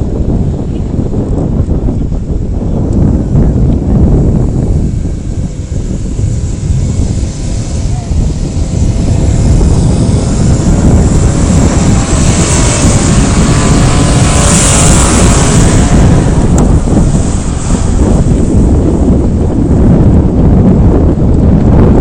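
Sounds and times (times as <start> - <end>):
off-road vehicle engine rumbling: 0.0 - 22.0
wind noise on microphone: 0.0 - 22.0.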